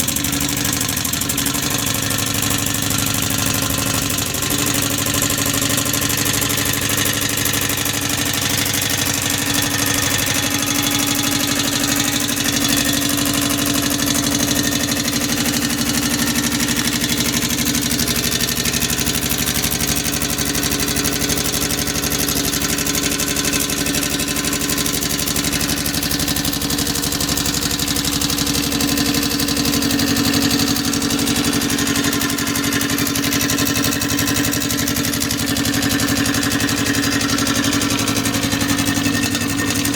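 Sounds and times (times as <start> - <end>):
steam engine running with hiss: 0.0 - 39.9.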